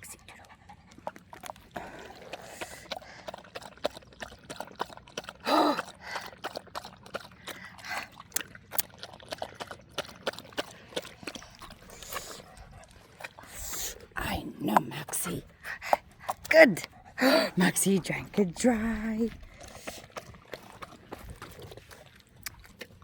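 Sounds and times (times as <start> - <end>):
dog lapping water: 0.0 - 23.0.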